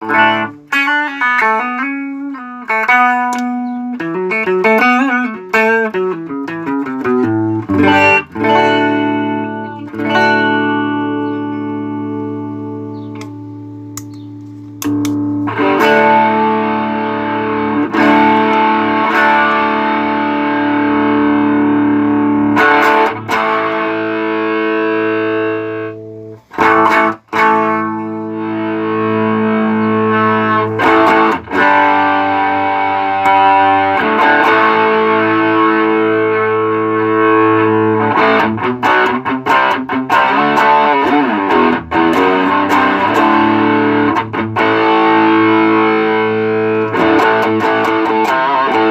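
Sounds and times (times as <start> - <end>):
overdriven electric guitar chords: 0.0 - 48.9.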